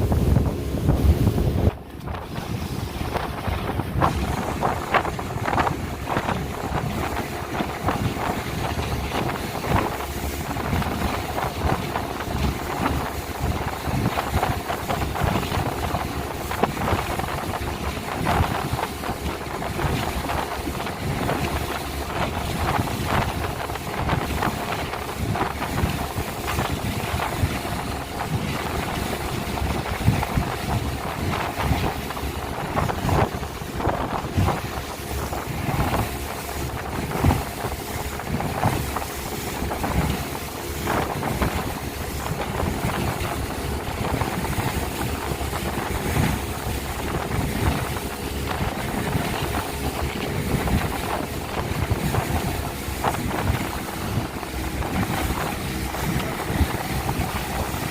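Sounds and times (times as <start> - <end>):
hull knocking on water: 0.0 - 57.9
speedboat engine running: 0.0 - 57.9
wind buffeting on microphone: 0.0 - 57.9.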